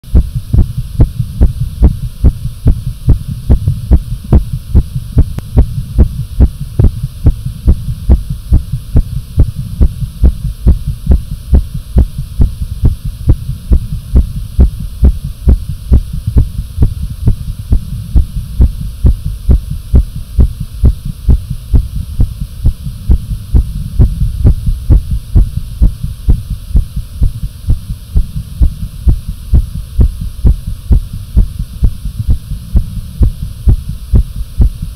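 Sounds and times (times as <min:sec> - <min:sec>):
heartbeat thuds: 0:00.0 - 0:34.9.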